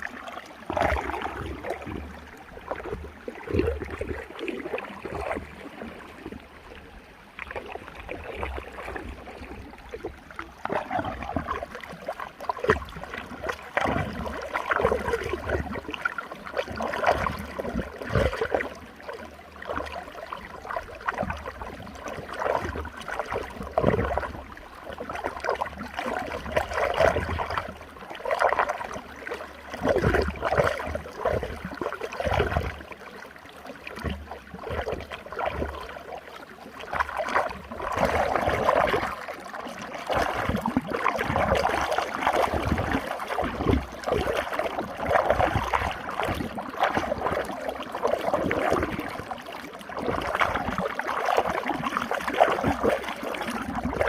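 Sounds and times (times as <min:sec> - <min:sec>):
water churning in a whirlpool: 0:00.0 - 0:54.0.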